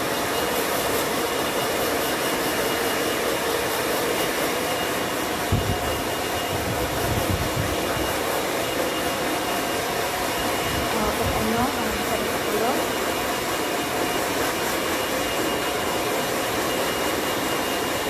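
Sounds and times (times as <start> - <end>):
electric fan whirring: 0.0 - 18.0.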